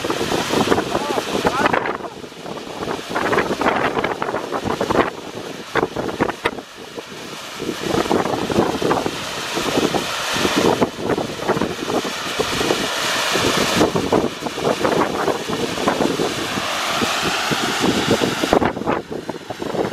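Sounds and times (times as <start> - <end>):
steam vent hissing roar: 0.0 - 19.9.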